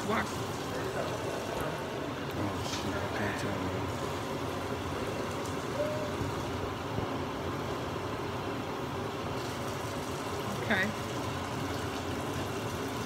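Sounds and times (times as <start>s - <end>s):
water running from tap: 0.0s - 6.7s, 9.2s - 13.0s.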